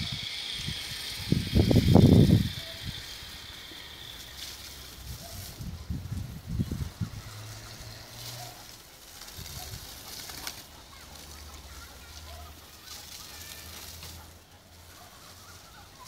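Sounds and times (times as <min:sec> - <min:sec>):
hose water spraying onto grass: 0:00.0 - 0:16.0.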